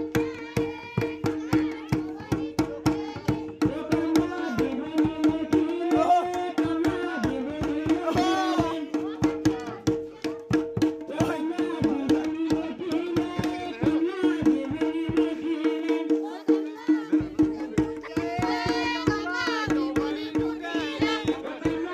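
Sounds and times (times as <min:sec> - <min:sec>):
hand drum beating fast rhythm: 0:00.0 - 0:21.9
voices singing: 0:00.0 - 0:21.9.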